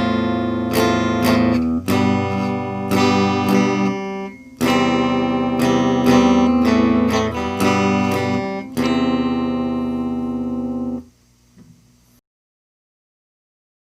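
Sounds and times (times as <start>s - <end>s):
electric guitar chord strums: 0.0s - 11.8s.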